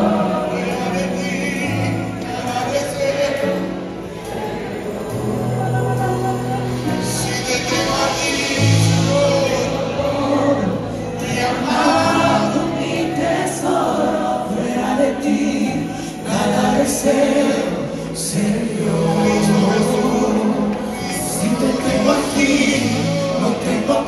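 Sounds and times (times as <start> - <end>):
group singing worship song: 0.0 - 24.0
keyboard: 0.0 - 24.0.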